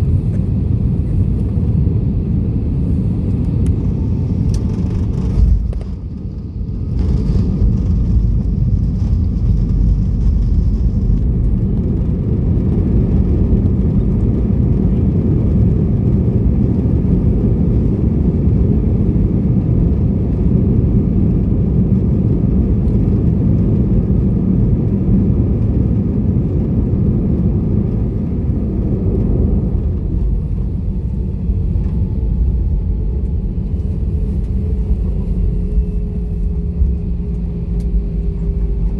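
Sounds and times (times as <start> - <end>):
airliner low rumble: 0.0 - 38.9.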